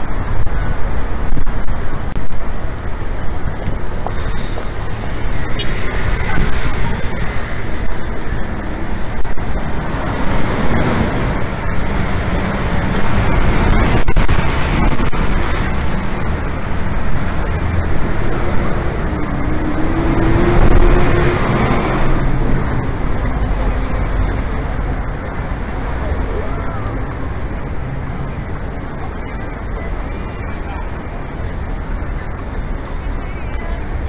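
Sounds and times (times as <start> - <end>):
passing vehicles din: 0.0 - 34.0.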